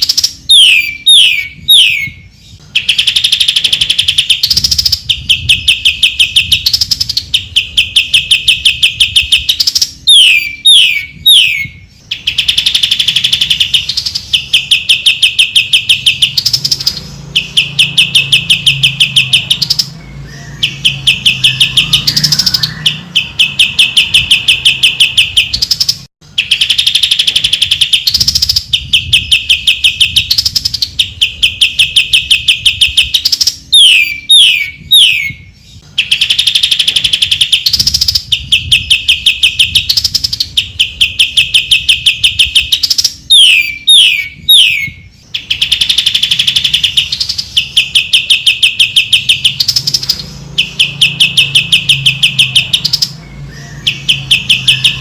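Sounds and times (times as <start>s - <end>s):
bird song with rapid high trills: 0.0s - 55.0s.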